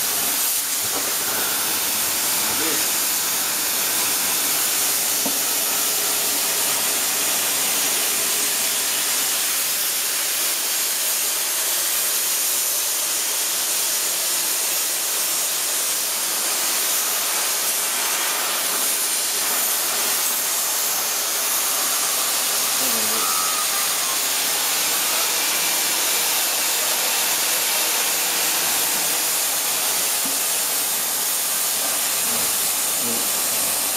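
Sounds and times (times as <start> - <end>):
cutting torch hissing: 0.0 - 33.9.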